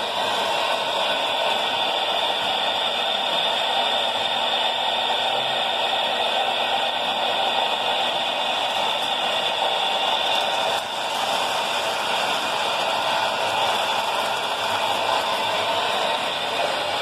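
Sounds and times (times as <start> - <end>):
toy electric trains whirring: 0.0 - 17.0.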